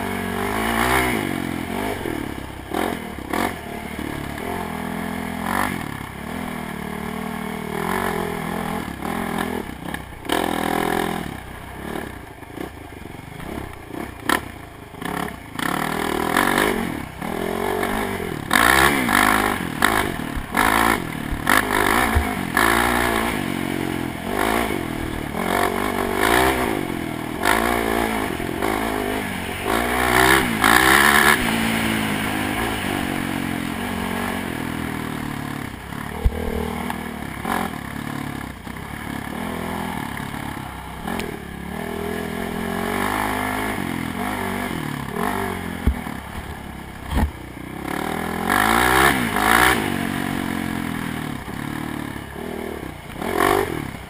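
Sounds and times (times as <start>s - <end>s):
atv engine running hard: 0.0s - 54.0s.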